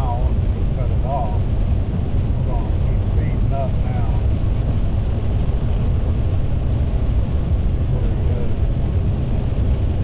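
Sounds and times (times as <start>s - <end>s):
car driving rumble: 0.0s - 10.0s.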